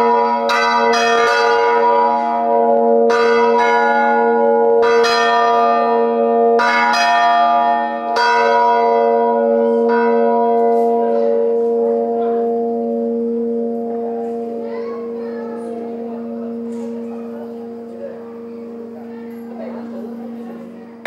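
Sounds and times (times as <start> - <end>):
church bells pealing: 0.0 - 21.0.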